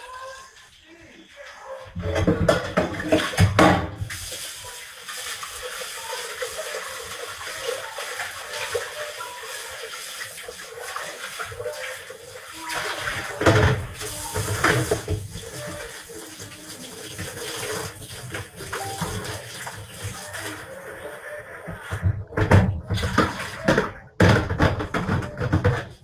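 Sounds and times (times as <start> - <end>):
water running: 0.0 - 22.0.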